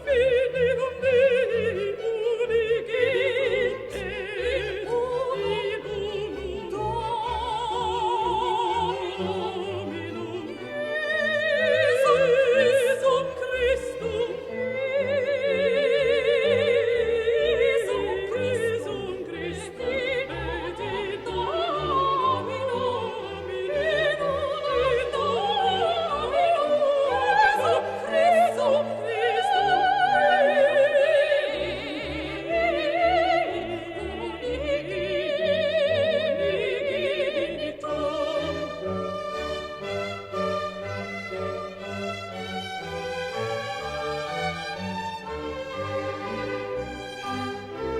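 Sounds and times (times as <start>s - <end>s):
operatic voice singing: 0.0s - 39.0s
orchestral accompaniment: 0.0s - 47.9s.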